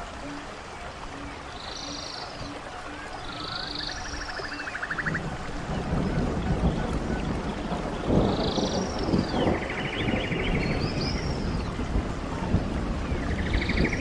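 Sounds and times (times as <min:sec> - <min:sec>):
stream water rushing: 0:00.0 - 0:14.0
songbird singing trills: 0:00.2 - 0:11.8, 0:13.1 - 0:14.0.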